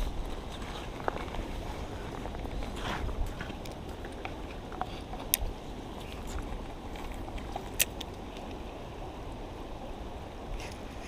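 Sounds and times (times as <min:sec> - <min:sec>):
creek running over stones: 0:00.0 - 0:11.0.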